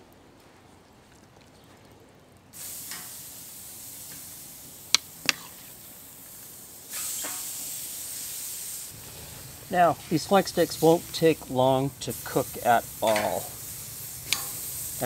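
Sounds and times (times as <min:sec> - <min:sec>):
steak sizzling on grill: 0:02.6 - 0:15.0.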